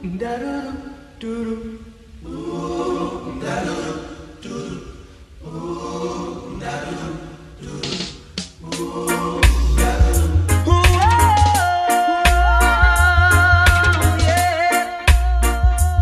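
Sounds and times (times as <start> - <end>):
layered voices singing held chords: 0.0 - 16.0.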